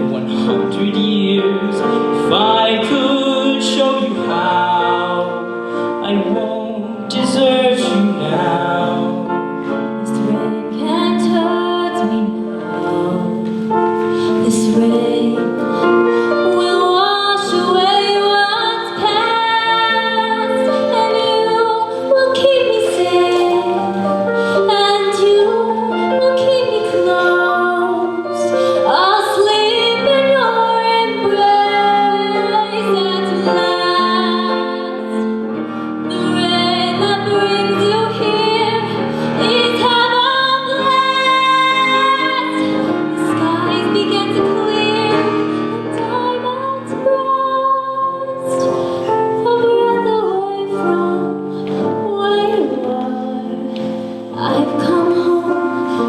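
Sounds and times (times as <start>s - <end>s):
person singing a slow ballad: 0.0s - 56.0s
piano chords: 0.0s - 56.0s.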